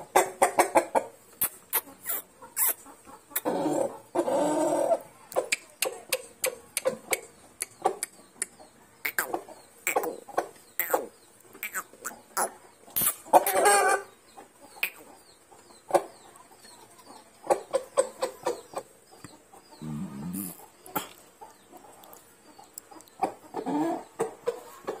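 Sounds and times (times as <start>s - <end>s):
chicken clucking: 0.0s - 25.0s.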